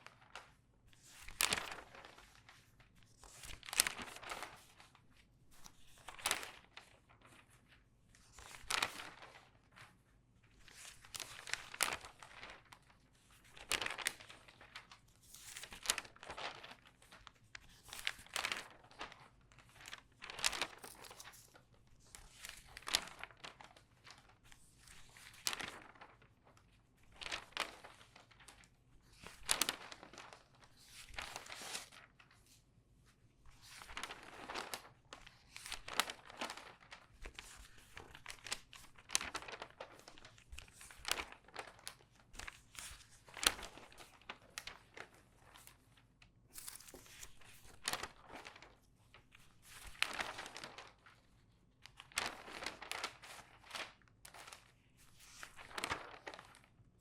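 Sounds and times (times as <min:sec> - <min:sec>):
newspaper pages turning: 0:00.0 - 0:56.7.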